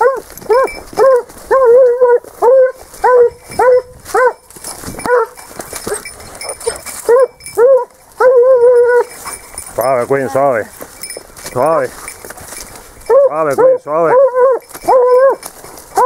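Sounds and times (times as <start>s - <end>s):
hound baying: 0.0s - 11.2s, 11.9s - 16.0s.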